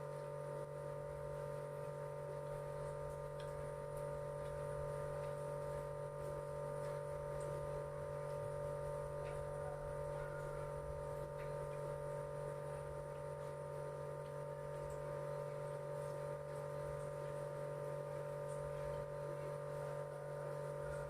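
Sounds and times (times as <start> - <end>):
appliance humming: 0.0 - 21.0.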